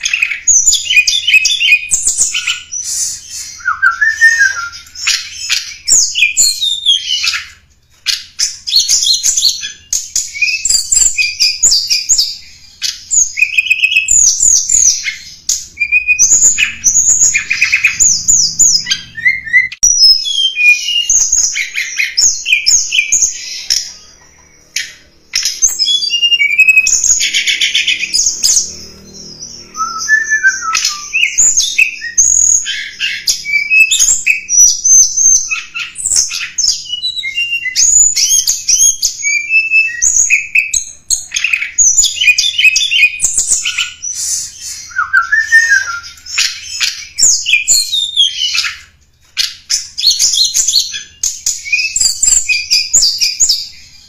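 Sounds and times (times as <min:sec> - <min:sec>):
bird chirping and trilling: 0:00.0 - 0:54.0.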